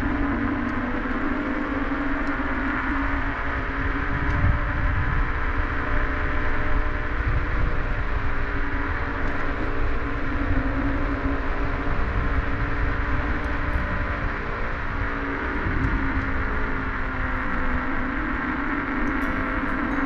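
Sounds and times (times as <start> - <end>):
electric motor whine: 0.0 - 20.0
wind rumble on microphone: 0.0 - 20.0.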